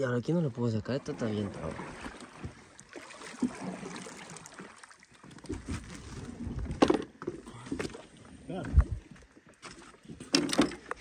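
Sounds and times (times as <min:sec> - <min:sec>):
pole in water: 0:00.0 - 0:11.0
water lapping around boat: 0:00.0 - 0:11.0.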